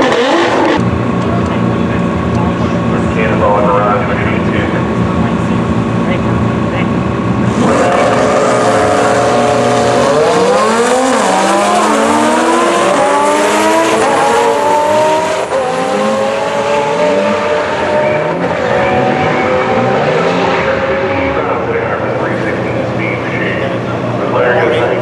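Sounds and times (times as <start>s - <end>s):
drag racing car accelerating: 0.0s - 25.0s.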